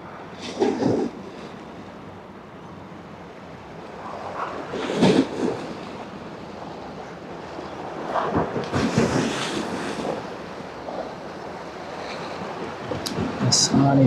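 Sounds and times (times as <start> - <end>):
harbour water washing: 0.0 - 14.0
wind buffeting microphone: 0.0 - 14.0.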